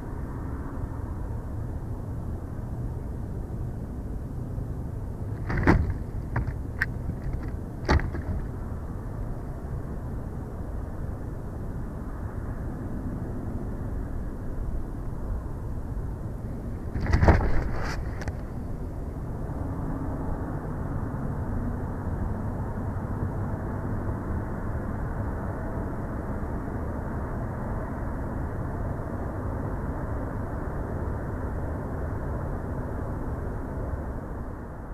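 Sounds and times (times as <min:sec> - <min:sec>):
low outdoor rumble: 0:00.0 - 0:34.9.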